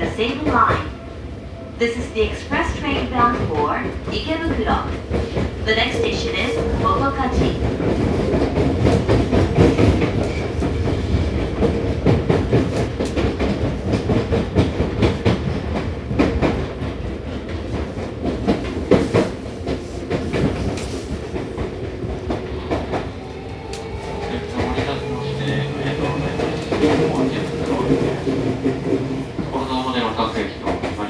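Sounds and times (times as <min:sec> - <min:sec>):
train wheels clicking over rail joints: 0:03.4 - 0:31.0.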